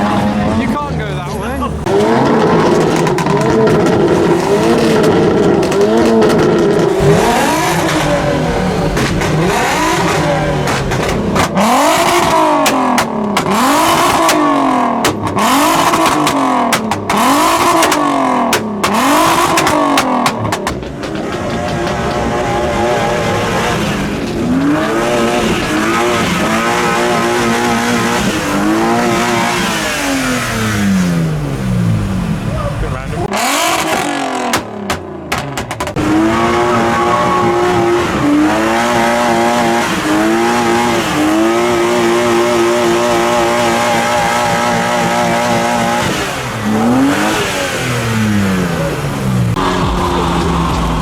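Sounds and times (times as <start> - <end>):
car engine revving: 0.0 - 51.0
exhaust cracks: 0.0 - 51.0.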